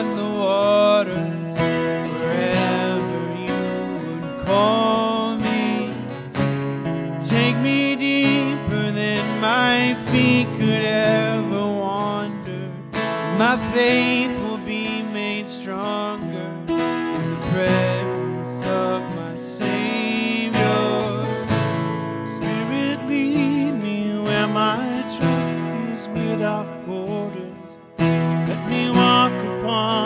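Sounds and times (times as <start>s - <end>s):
acoustic guitars strumming: 0.0s - 30.0s.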